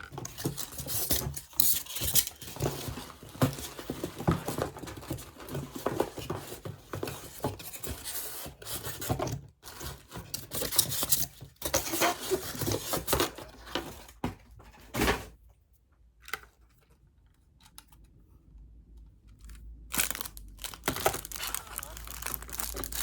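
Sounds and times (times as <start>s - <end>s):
paper and packaging rustling: 0.0s - 15.4s, 19.3s - 23.0s.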